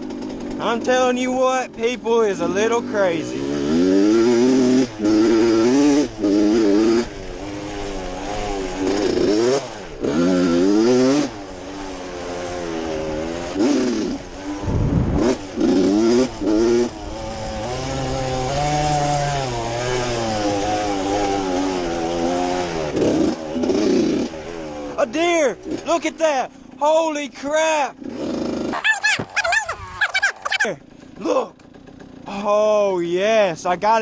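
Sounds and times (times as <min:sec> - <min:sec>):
dirt bike engine revving: 0:00.0 - 0:32.5.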